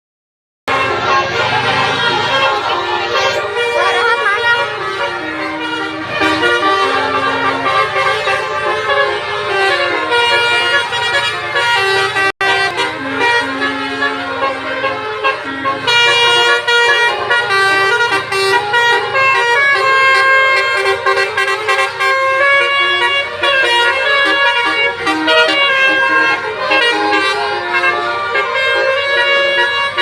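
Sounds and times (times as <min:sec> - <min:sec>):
multi-tone bus air horns: 0:00.7 - 0:30.0.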